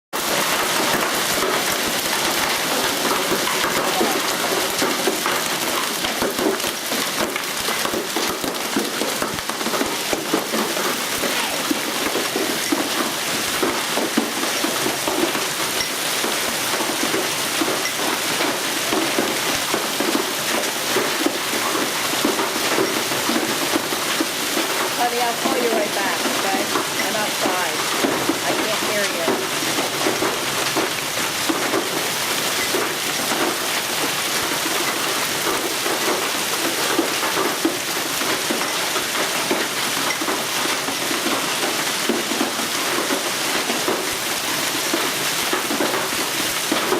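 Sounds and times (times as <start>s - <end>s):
hail and rain pelting: 0.1s - 46.9s.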